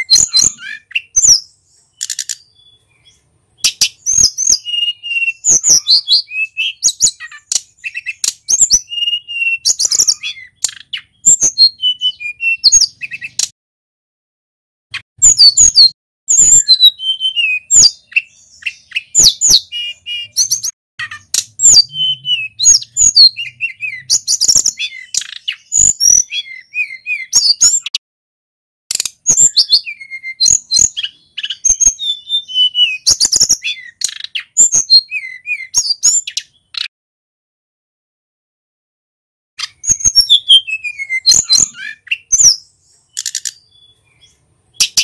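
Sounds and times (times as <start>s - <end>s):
flycatcher singing: 0.0s - 13.5s, 15.2s - 28.0s, 28.9s - 36.9s, 39.6s - 45.0s.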